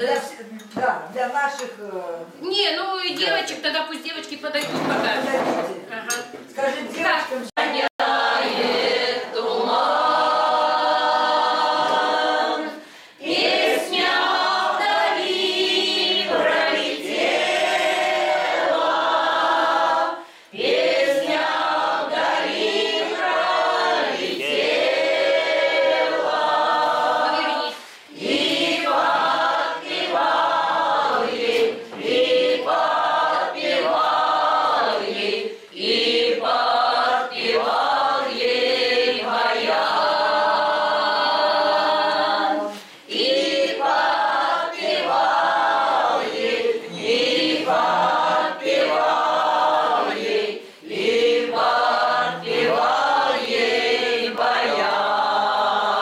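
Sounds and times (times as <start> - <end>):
choir singing unaccompanied: 7.5 - 56.0.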